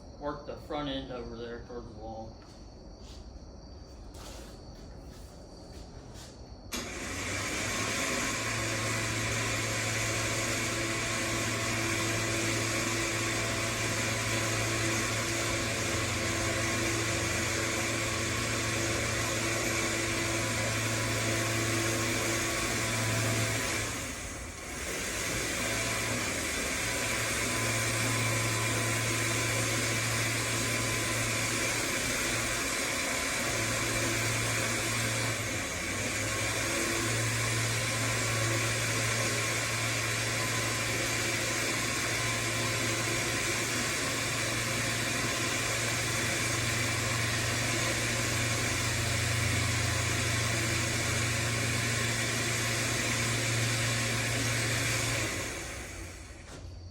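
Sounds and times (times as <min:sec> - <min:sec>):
electric winch running: 0:06.2 - 0:56.8.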